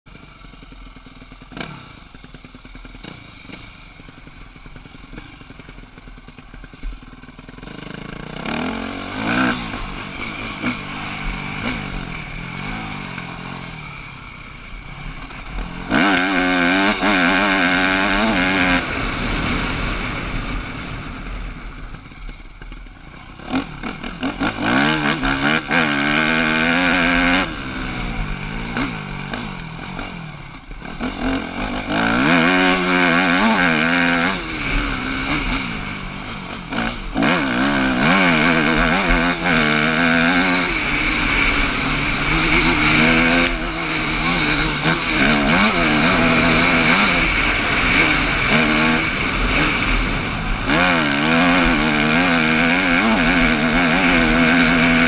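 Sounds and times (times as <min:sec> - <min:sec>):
dirt bike engine revving: 0:00.1 - 0:55.0.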